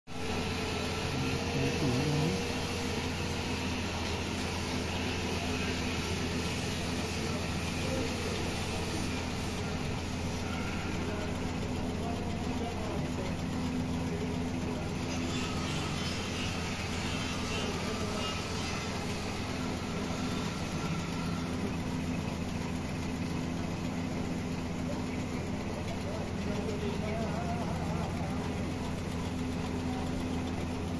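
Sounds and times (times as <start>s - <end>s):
low machine hum: 0.1s - 30.9s.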